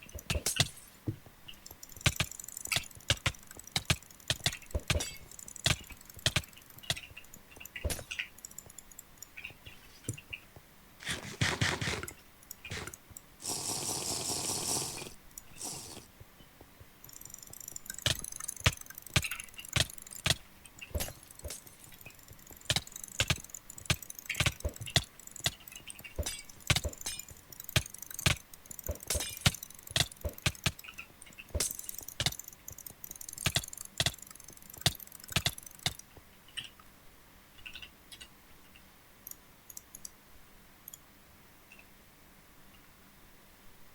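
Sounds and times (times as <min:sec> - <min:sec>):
mouse buttons clicking fast: 0:01.5 - 0:16.1, 0:17.0 - 0:36.7, 0:39.3 - 0:40.2.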